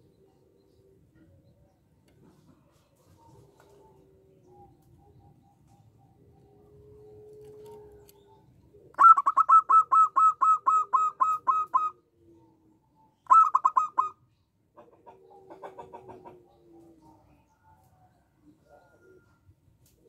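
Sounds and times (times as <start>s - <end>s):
dove calling: 0.0s - 20.0s.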